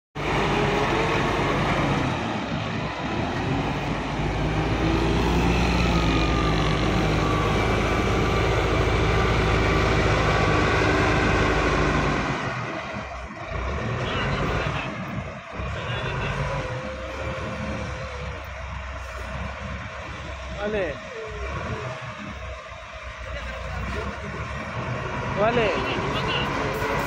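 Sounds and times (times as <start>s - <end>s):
diesel engine running under load: 0.2s - 27.0s.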